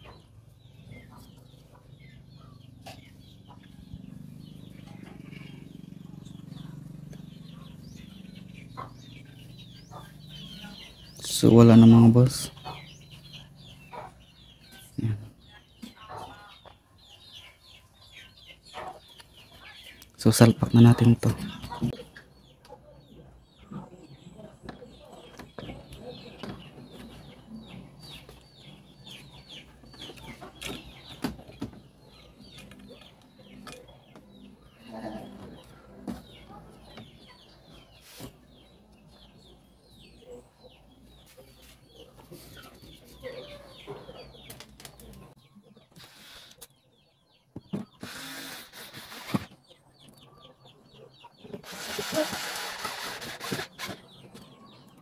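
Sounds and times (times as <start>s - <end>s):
birds chirping falling calls: 0.0s - 55.0s.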